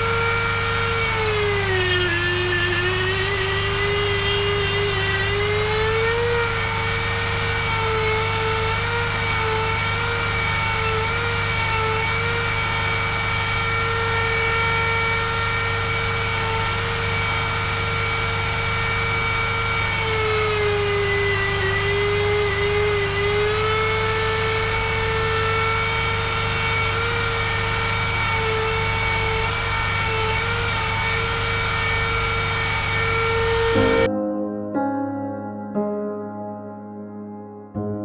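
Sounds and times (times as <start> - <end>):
power tool motor running: 0.0 - 34.1.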